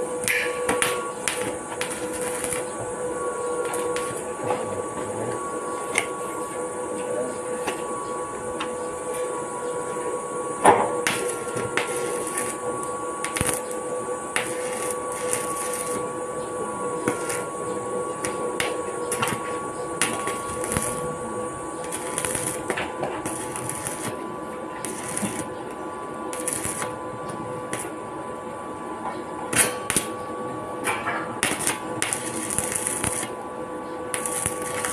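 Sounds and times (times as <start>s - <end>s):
welding arc crackling and popping: 0.0s - 6.7s, 7.4s - 28.0s, 29.5s - 30.2s, 30.8s - 34.9s
steady hum: 0.0s - 34.9s.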